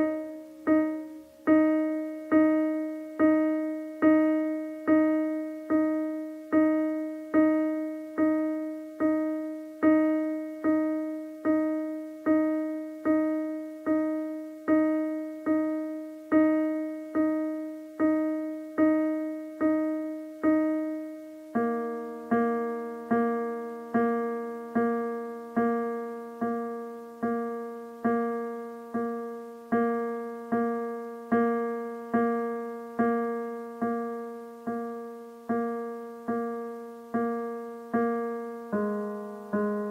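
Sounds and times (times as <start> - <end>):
piano note struck repeatedly: 0.0 - 39.9.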